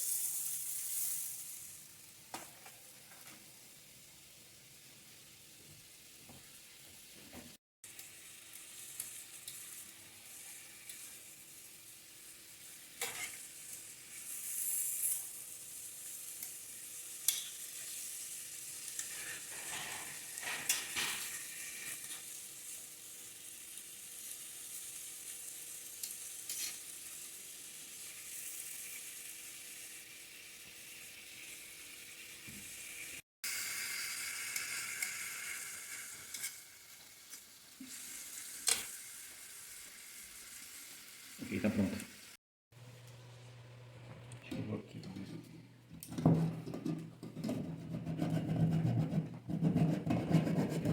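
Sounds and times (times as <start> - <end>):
steak sizzling in a pan: 0.0 - 7.2, 7.8 - 42.4.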